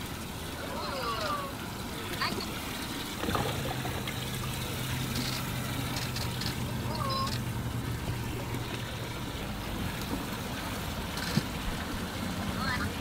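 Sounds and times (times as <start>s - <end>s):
outboard boat motors idling: 0.0s - 13.0s
water dripping and splashing: 0.0s - 13.0s.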